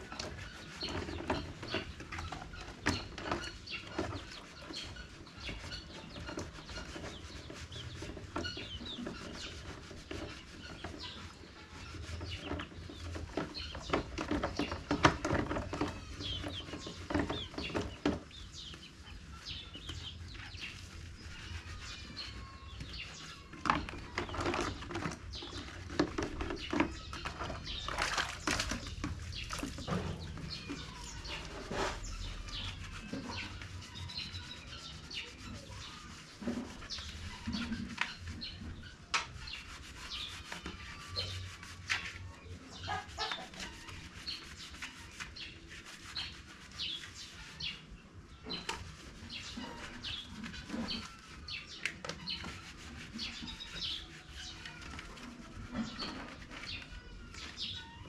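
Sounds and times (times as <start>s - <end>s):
chickens chirping and calling: 0.0s - 58.0s.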